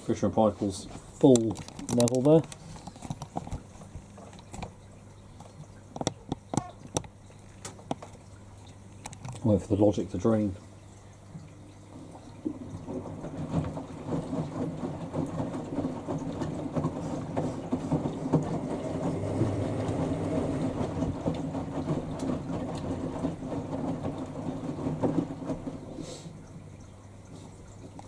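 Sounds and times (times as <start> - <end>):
washer pump draining water: 0.0 - 28.0.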